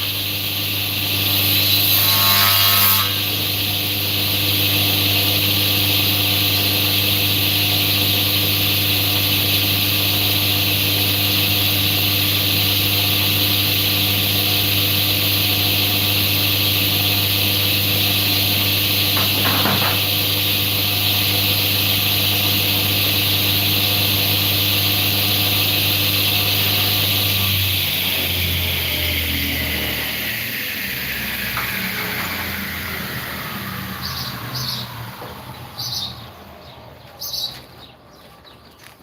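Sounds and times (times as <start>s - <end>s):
electric machine motor hum: 0.0s - 37.5s.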